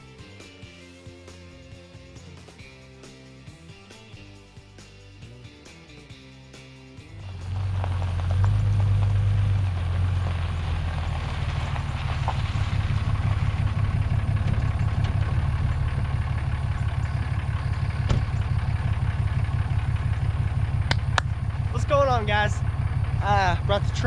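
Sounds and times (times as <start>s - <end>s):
truck engine rumbling: 0.0s - 24.0s.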